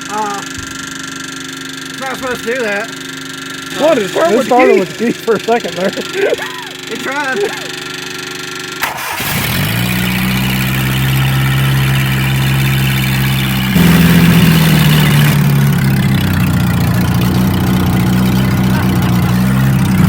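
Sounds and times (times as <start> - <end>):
skid steer engine idling: 0.0 - 20.0.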